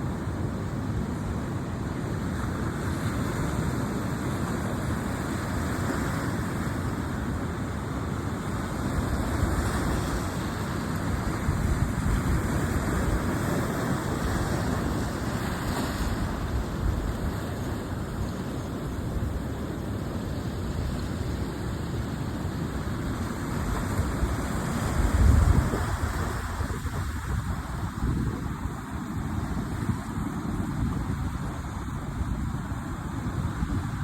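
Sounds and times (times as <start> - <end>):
sea surf washing ashore: 0.0 - 34.0
wind rumbling on microphone: 0.0 - 34.0.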